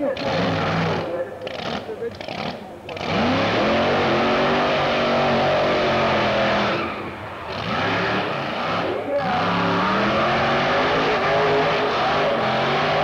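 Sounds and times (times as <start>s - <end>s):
car engine revving high: 0.0s - 13.0s.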